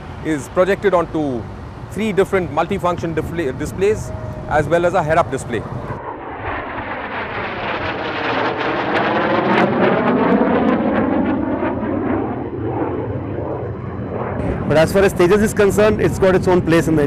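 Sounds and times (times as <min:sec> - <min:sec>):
jet fighter roaring overhead: 0:00.0 - 0:17.0.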